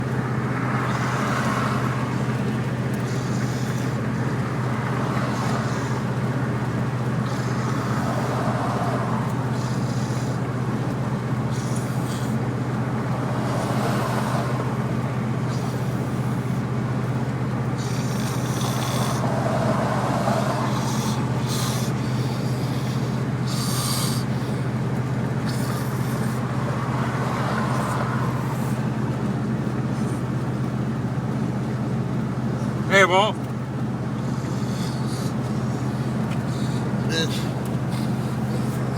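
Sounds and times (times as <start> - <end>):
man snoring heavily: 0.0 - 29.0, 34.1 - 38.9
low car hum: 0.0 - 38.9.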